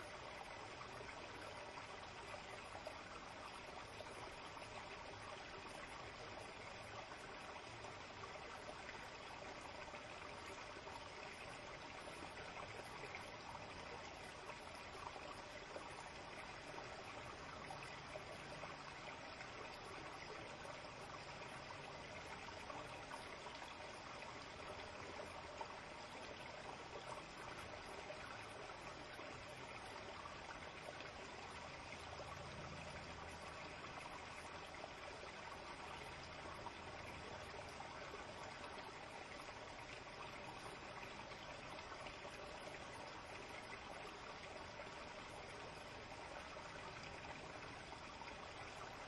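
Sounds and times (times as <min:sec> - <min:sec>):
stream trickling: 0:00.0 - 0:49.0.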